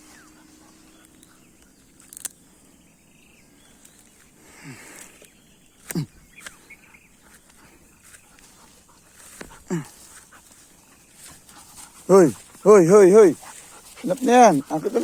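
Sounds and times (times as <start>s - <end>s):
faint insect hum: 0.0s - 15.0s.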